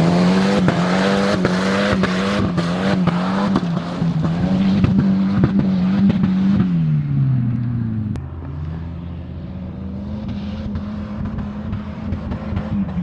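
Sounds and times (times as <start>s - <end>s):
turbocharged car engine running: 0.0s - 13.0s.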